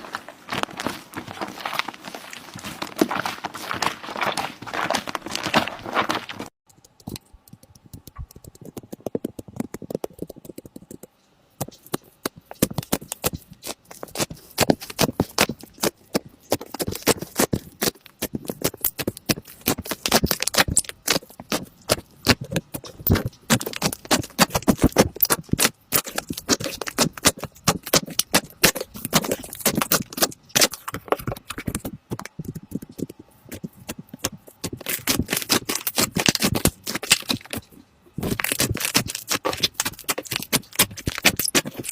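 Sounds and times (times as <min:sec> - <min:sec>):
slime squishing with wet pops: 0:06.7 - 0:41.9.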